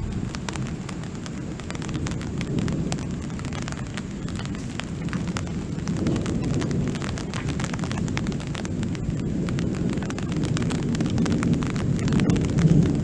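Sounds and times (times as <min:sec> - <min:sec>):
raindrop ticks: 0:00.0 - 0:13.0
thunder rumbling: 0:00.0 - 0:13.0.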